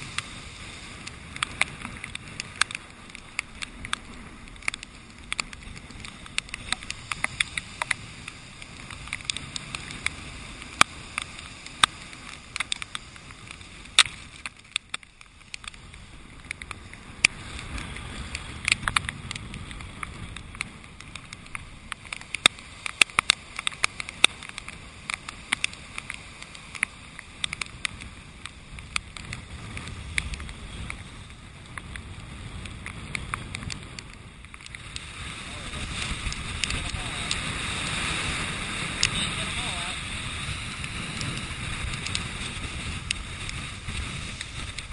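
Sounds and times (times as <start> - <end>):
raindrops ticking on camera housing: 0.0 - 44.9
storm surf rumbling: 0.0 - 44.9
wind: 0.0 - 44.9.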